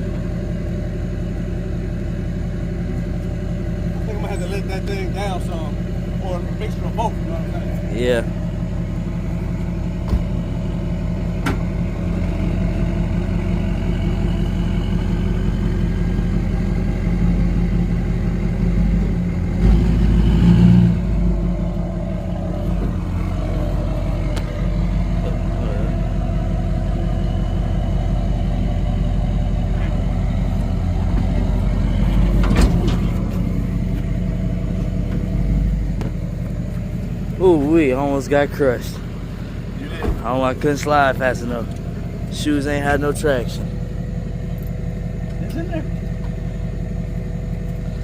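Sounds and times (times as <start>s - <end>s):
pickup truck engine running: 0.0s - 48.0s.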